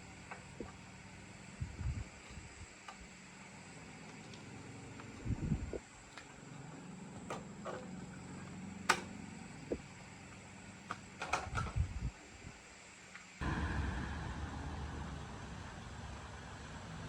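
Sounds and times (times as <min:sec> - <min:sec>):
steady low hum: 0:00.0 - 0:12.6, 0:13.4 - 0:17.0.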